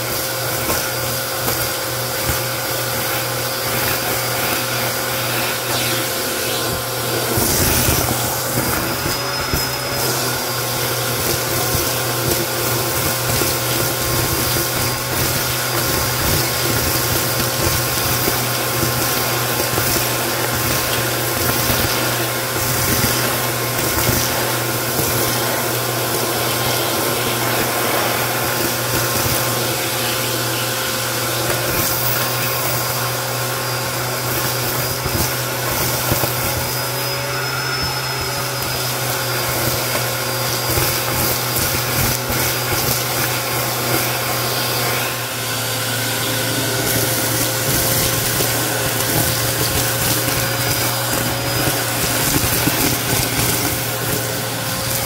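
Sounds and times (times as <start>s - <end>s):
debris crunching in vacuum hose: 0.0s - 55.0s
vacuum motor whine: 0.0s - 55.0s.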